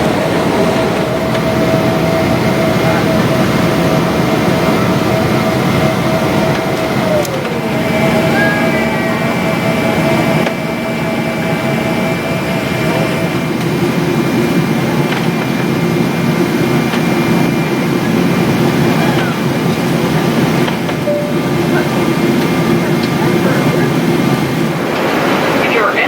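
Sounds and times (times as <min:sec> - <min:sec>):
faint steady whines: 0:00.0 - 0:26.0
jet engine rumble: 0:00.0 - 0:26.0.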